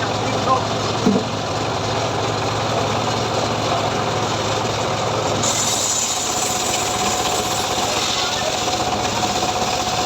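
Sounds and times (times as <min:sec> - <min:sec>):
sawmill engine running: 0:00.0 - 0:10.0.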